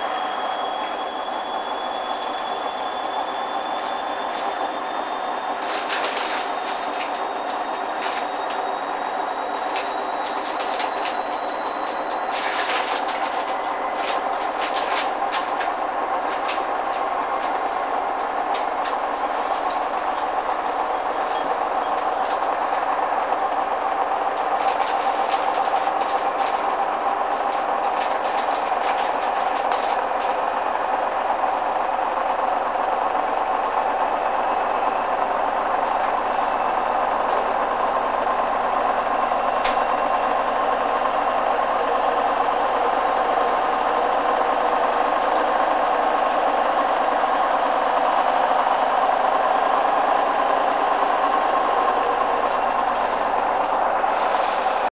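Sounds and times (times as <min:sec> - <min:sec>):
thin high whine: 0:00.0 - 0:54.9
washing machine spin cycle: 0:00.0 - 0:54.9.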